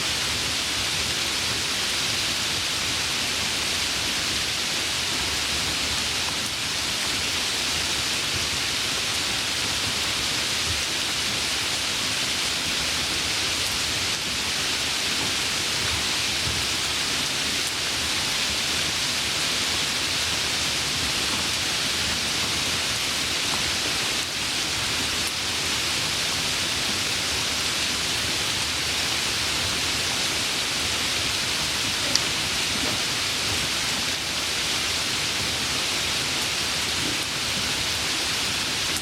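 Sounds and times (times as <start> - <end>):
hiss of falling water: 0.0 - 39.0.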